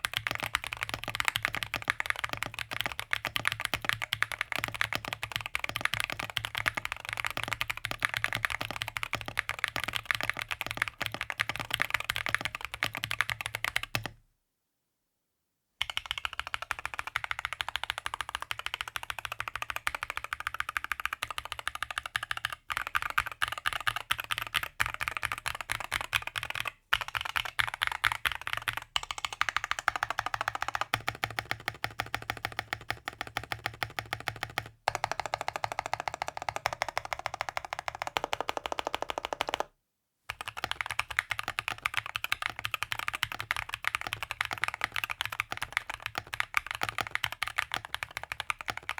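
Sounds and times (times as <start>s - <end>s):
mechanical keyboard typing: 0.0s - 14.1s, 15.8s - 39.7s, 40.3s - 48.9s.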